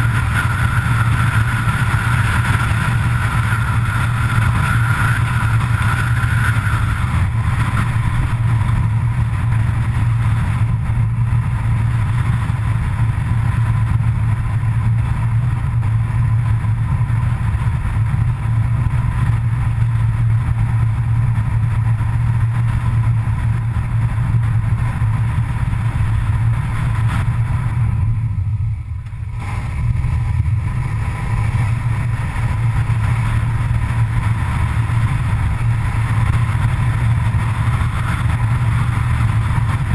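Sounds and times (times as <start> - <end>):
vehicle engine and tyre drone: 0.0 - 39.9.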